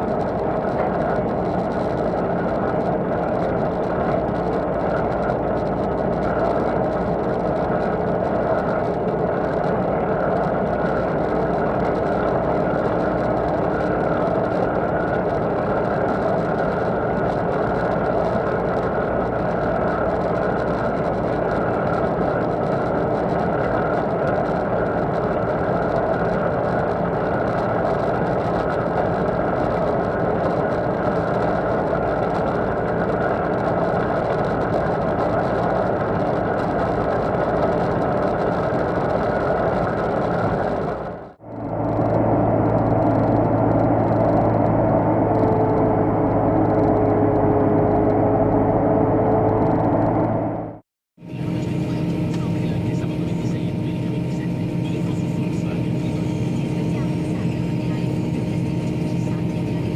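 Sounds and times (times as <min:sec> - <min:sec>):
combine harvester machinery drone: 0:00.0 - 0:59.9
steady tones: 0:00.0 - 0:59.9.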